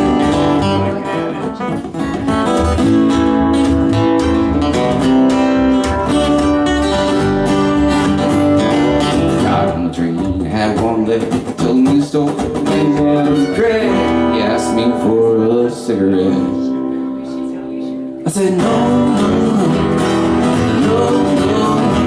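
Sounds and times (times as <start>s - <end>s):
live band playing: 0.0s - 22.0s
strummed acoustic guitar: 0.0s - 22.0s.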